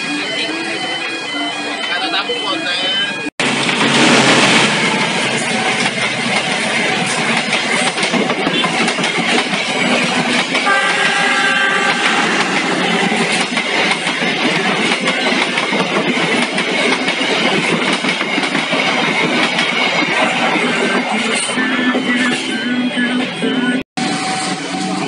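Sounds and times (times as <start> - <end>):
steel wheels on rails: 3.4 - 25.0.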